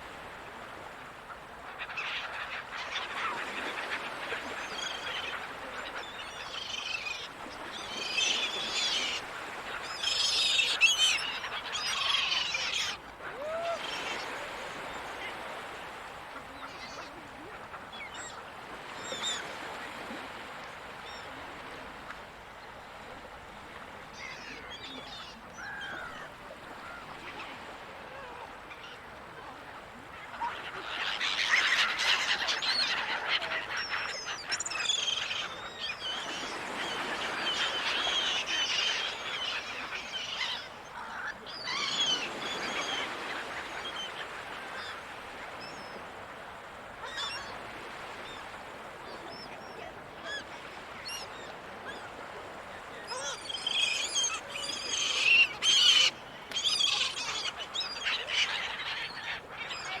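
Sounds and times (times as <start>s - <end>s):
seagulls calling: 1.7s - 20.5s, 24.1s - 46.2s, 47.0s - 60.0s.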